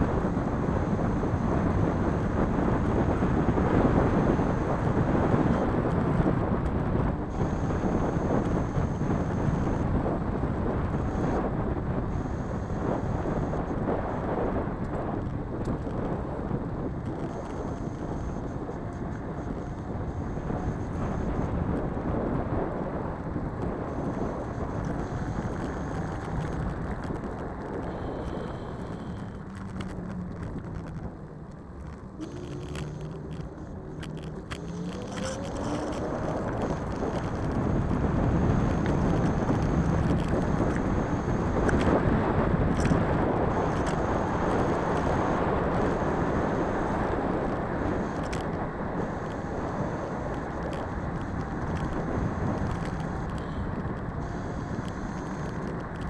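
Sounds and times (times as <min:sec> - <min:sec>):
scooter wheels rolling over pavement: 0:00.0 - 0:56.0
wind on microphone: 0:00.0 - 0:56.0.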